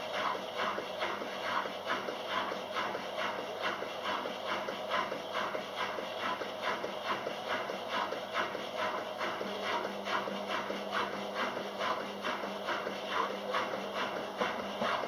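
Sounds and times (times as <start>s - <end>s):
washing machine rhythmic swishing: 0.0s - 15.0s.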